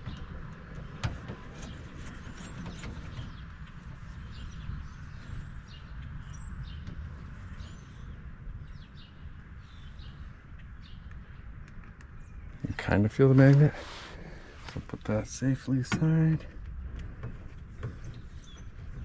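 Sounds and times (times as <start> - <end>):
low outdoor rumble: 0.0 - 19.0
small birds chirping: 1.5 - 16.9, 17.8 - 19.0.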